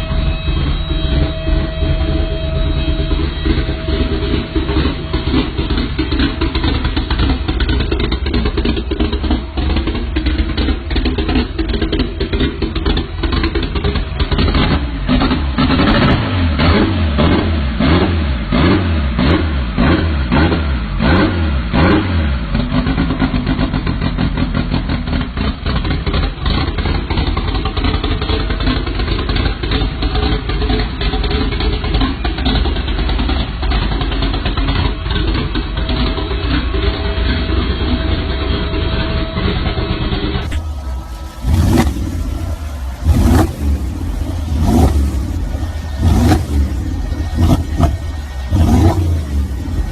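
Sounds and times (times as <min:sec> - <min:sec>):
engine revving throttle blips: 0:00.0 - 0:49.9
loud exhaust engine idling: 0:00.0 - 0:49.9.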